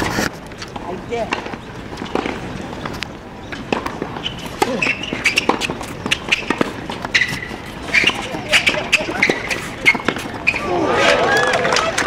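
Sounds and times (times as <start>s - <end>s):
tennis balls bouncing on court: 0.6s - 10.8s
tennis balls struck by racquets: 0.7s - 10.7s.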